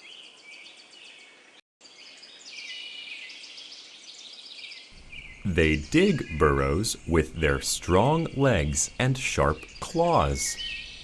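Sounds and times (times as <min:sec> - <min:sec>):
small birds chirping and trilling: 0:00.0 - 0:11.0.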